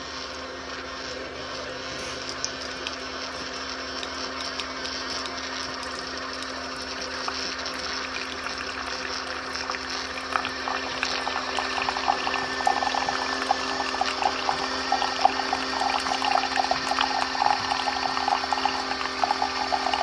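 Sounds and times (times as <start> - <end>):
coffee maker pump humming: 0.0 - 20.0
water gurgling: 2.3 - 20.0.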